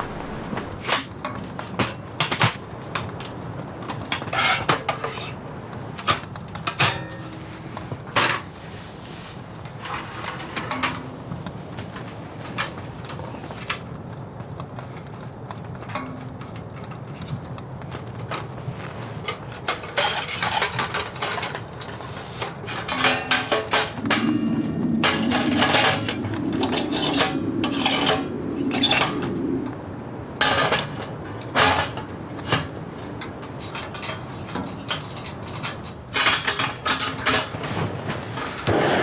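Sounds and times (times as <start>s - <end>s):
camping cookware clattering: 0.0s - 8.7s, 9.5s - 29.6s, 30.2s - 39.0s
steady low hiss: 0.0s - 39.0s.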